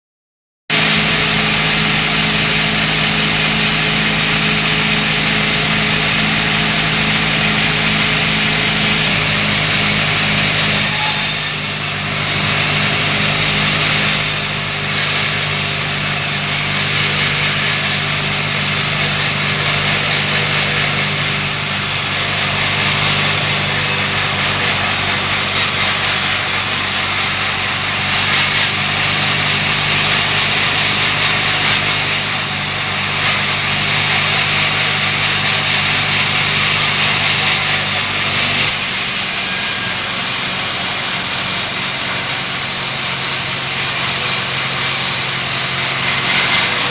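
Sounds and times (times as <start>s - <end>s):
bandsaw motor humming: 0.7s - 46.9s
saw blade cutting wood: 0.7s - 46.9s.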